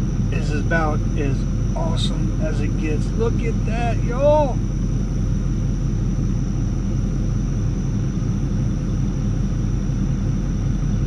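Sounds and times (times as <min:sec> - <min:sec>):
low rumble: 0:00.0 - 0:09.6.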